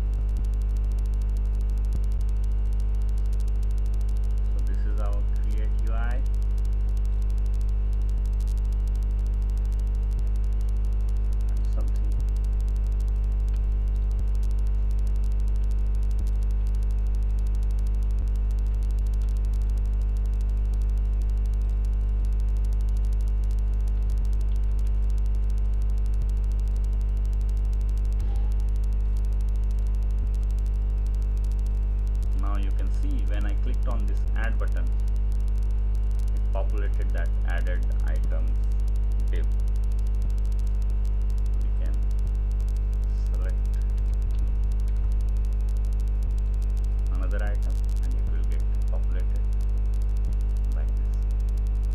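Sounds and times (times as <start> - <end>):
electrical mains hum: 0.0 - 51.9
faint clicks: 0.0 - 51.9.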